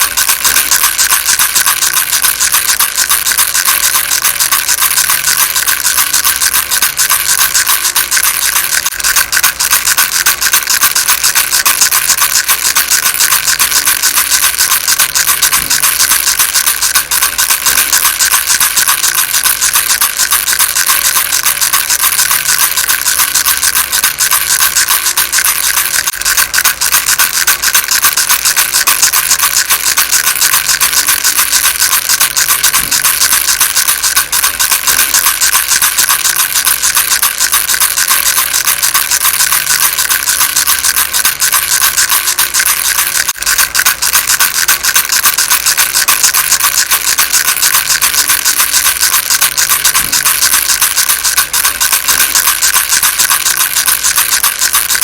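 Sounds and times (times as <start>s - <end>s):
baby rattle shaken: 0.0s - 55.0s.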